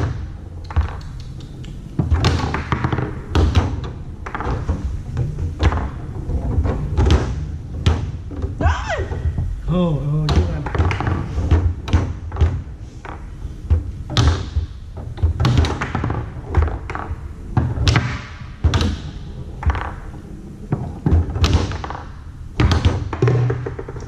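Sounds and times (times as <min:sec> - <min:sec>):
foosball ball clacking: 0:00.0 - 0:09.6, 0:10.2 - 0:24.0
foosball rods knocking: 0:00.0 - 0:09.6, 0:10.2 - 0:24.0.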